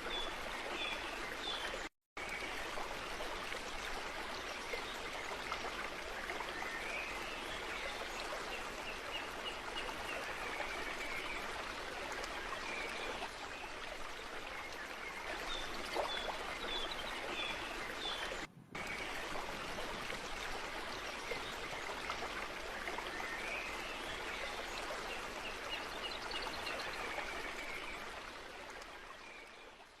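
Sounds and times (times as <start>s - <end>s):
stream running: 0.0s - 30.0s.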